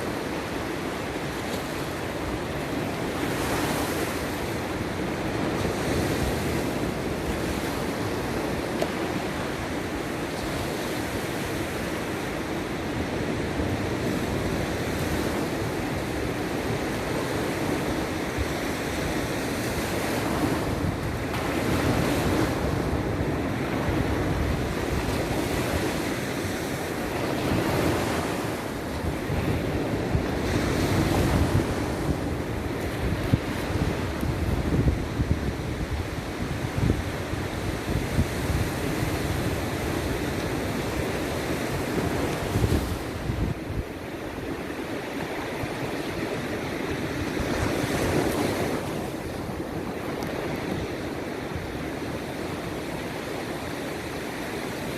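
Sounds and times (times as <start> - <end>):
sea surf washing ashore: 0.0 - 54.9
wind rumble on microphone: 0.0 - 54.9.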